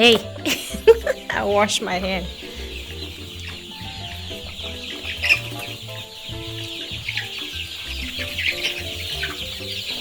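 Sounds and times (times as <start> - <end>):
background music: 0.0 - 10.0
chickens chattering: 0.0 - 10.0.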